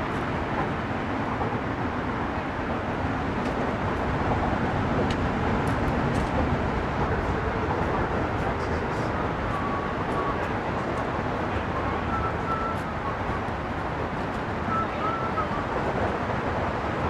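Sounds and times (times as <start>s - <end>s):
steady rumbling noise: 0.0s - 17.0s.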